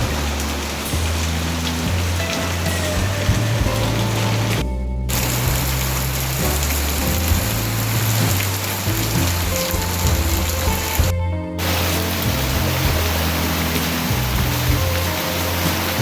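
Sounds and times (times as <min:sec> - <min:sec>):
soft background music: 0:00.0 - 0:16.0
steady rain hiss: 0:00.0 - 0:16.0.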